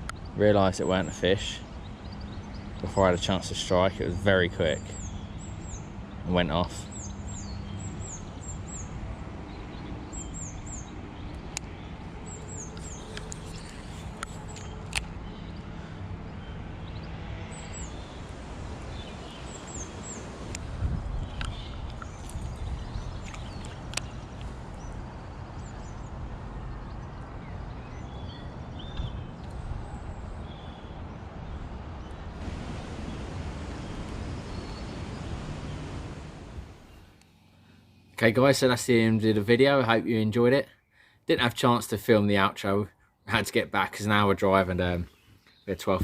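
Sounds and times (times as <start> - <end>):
low outdoor rumble: 0.0 - 38.6
small birds chirping: 0.0 - 39.4, 42.9 - 46.0.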